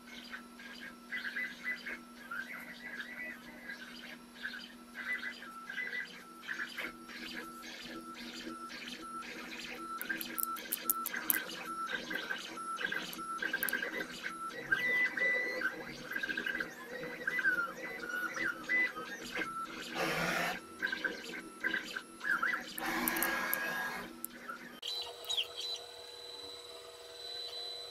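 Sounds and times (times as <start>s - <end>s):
steady hum: 0.0s - 27.9s
stepper motors whining: 0.3s - 27.9s.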